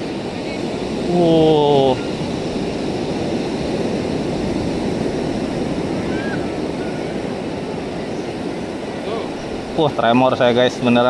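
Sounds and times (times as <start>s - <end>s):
surf breaking on rocks: 0.0s - 11.0s
wind on microphone: 0.0s - 11.0s.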